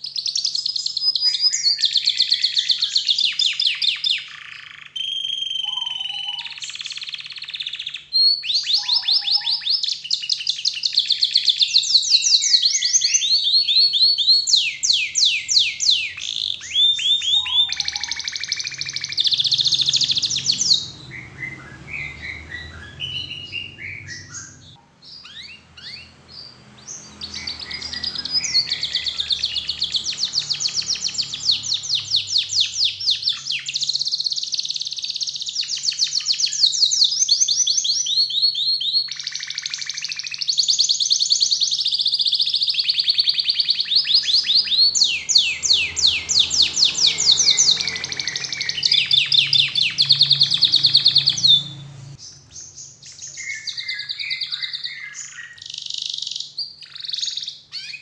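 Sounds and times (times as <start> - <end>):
canary singing trills: 0.0 - 58.0
soft bird chirps: 0.0 - 58.0.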